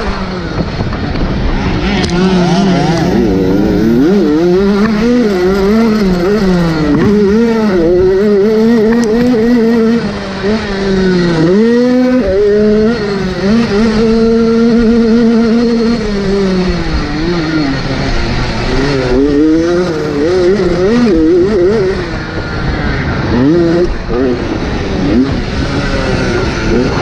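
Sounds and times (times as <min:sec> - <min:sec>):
motocross bike engine revving: 0:00.0 - 0:27.0.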